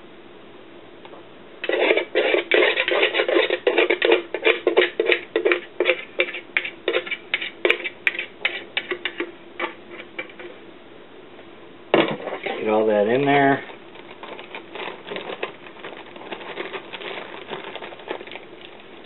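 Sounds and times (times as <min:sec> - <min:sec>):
utensil scraping mixing bowl: 0:01.6 - 0:10.6, 0:12.1 - 0:19.0.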